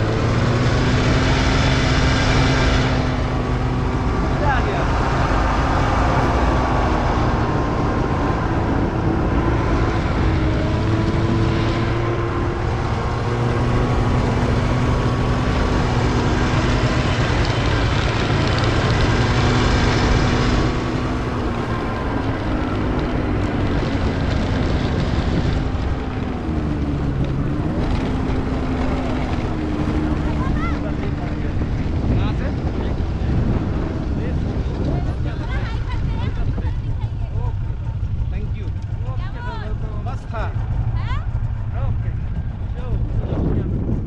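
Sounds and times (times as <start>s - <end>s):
snowmobile engine running: 0.0s - 44.0s
wind buffeting microphone: 0.0s - 44.0s.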